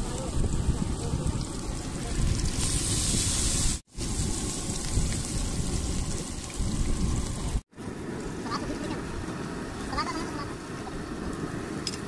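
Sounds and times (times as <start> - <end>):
hot oil sizzling and bubbling: 0.0 - 12.0.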